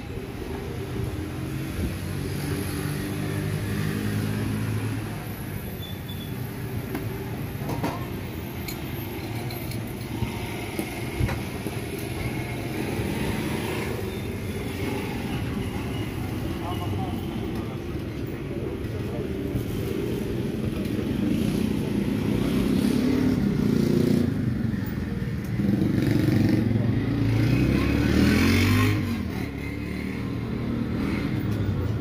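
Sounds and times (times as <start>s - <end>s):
street background noise: 0.0s - 32.0s.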